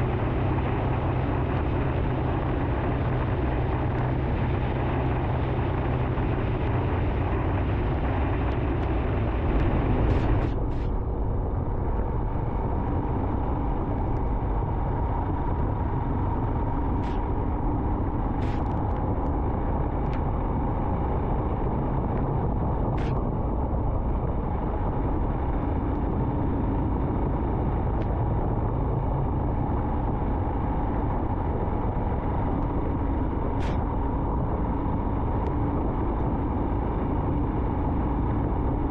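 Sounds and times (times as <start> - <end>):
rushing wind: 0.0 - 38.9.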